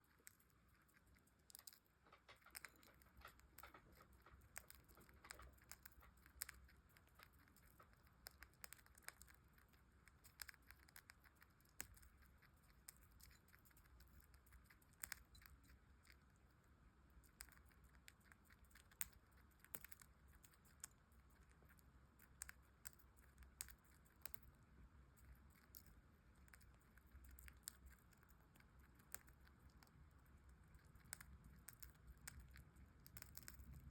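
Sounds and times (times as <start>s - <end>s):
bird beak pecking at food: 0.0s - 33.9s.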